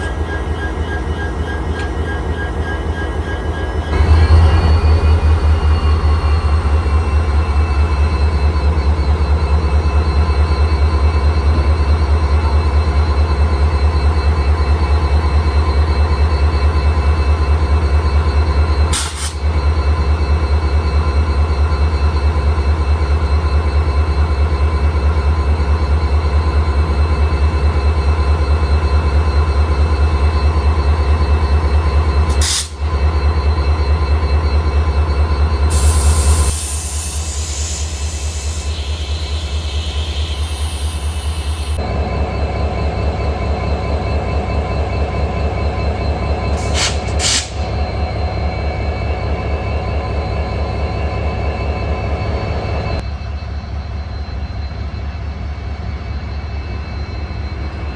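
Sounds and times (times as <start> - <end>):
diesel locomotive engine throbbing: 0.0 - 57.9
high turbine whine: 0.0 - 57.9.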